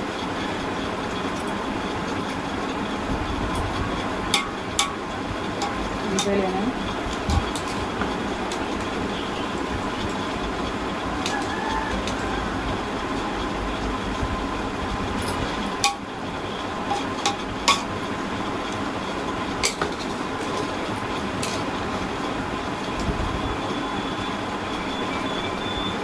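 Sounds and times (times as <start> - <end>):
rushing kitchen noise: 0.0 - 26.0.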